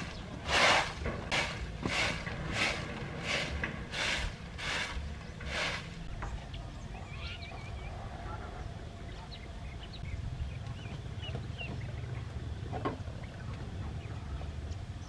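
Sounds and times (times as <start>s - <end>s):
chickens clucking and chirping: 0.0s - 15.0s
low rumble: 0.0s - 15.0s.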